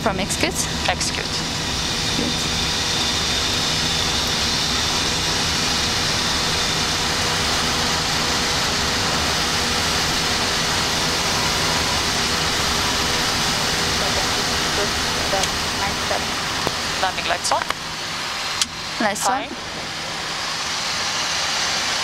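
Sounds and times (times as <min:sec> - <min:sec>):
airflow and jet engine noise: 0:00.0 - 0:22.0.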